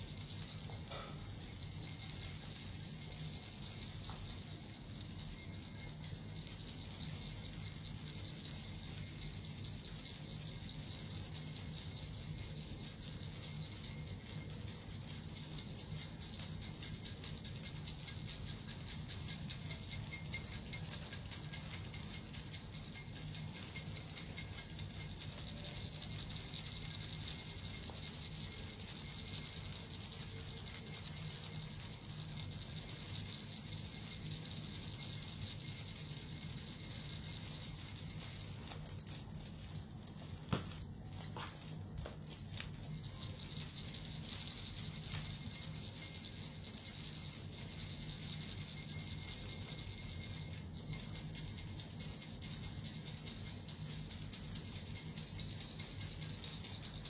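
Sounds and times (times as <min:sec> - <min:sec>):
jingle bells shaken: 0:00.0 - 0:57.0.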